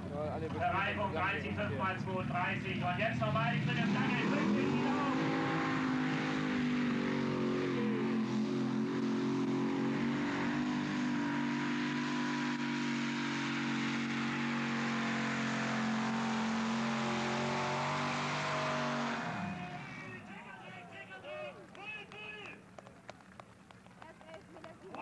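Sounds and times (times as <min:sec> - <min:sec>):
tractor engines running flat out: 0:00.0 - 0:25.0.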